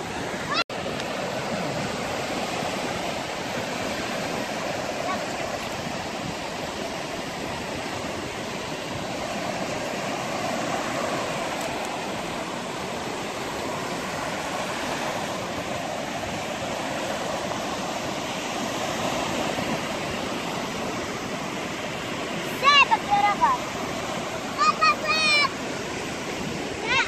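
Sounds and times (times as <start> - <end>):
sea surf breaking on shore: 0.0 - 27.0.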